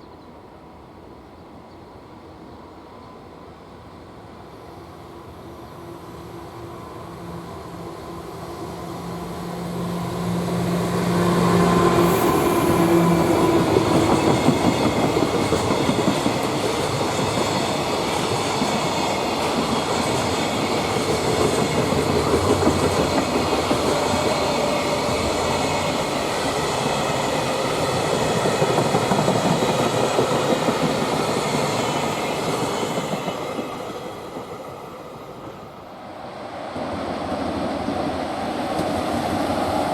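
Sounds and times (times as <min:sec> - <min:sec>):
freight train passing: 0:00.3 - 0:39.9.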